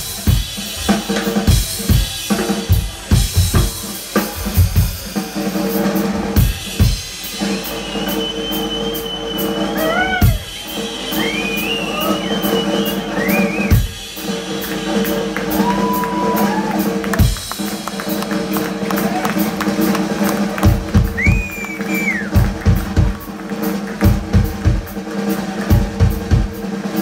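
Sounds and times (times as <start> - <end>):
blues band playing: 0.0 - 27.0.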